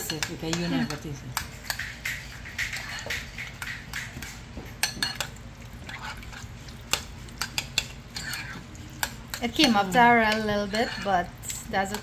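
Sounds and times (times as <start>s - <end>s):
spoon scraping glass bowl: 0.0s - 12.0s.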